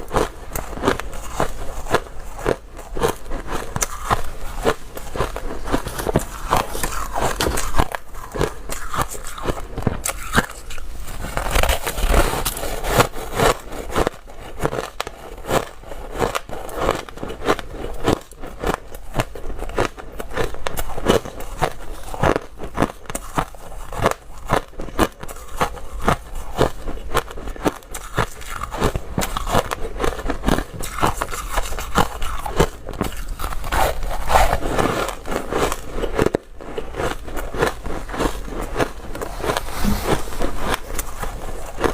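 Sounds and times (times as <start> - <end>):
ice being crunched and chewed: 0.0 - 41.9.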